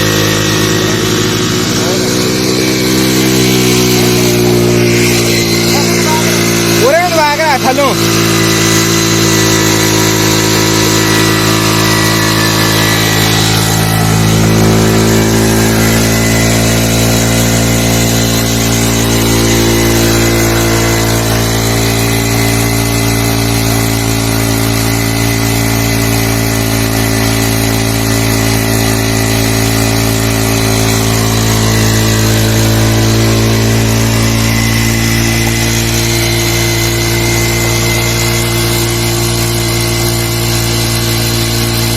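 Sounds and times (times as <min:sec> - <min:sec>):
motorcycle engine running steadily: 0:00.0 - 0:41.9.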